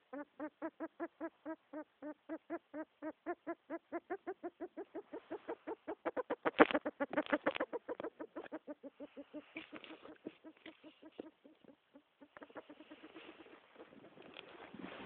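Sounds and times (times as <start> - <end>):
rat clucking: 0.0 - 14.5.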